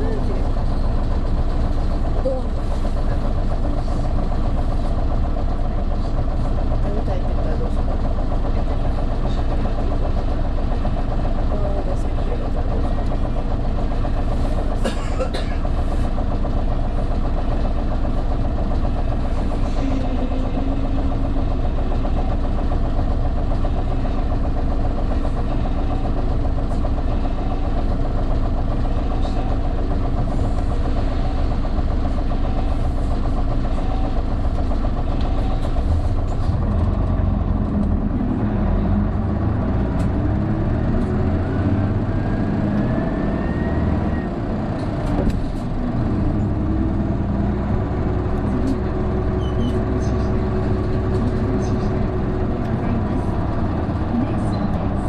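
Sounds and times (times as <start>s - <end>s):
bus diesel engine pulling uphill: 0.0s - 55.0s.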